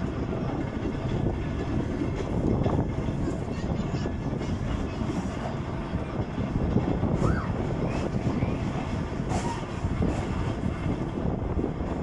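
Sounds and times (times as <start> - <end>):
railway car wheels rumbling on rails: 0.0 - 12.0.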